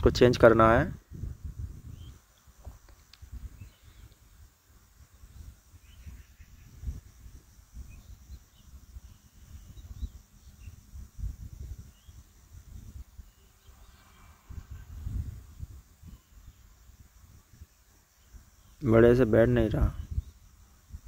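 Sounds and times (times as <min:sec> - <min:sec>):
faint bird chirps: 0:01.7 - 0:04.4, 0:05.0 - 0:21.0.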